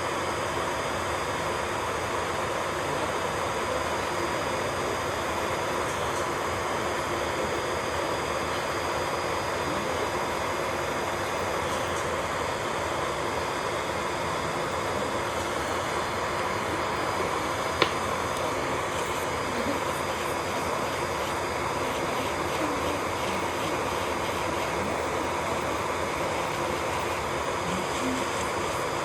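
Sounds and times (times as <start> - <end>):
small electric motor whining: 0.8 - 29.0.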